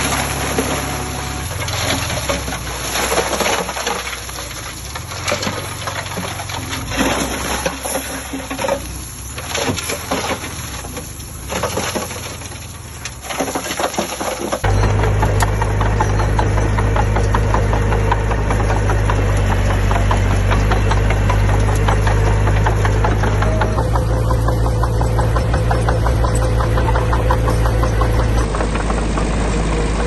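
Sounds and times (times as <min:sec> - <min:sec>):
clatter of small impacts: 0:00.0 - 0:29.7
diesel engine running low: 0:00.0 - 0:30.0.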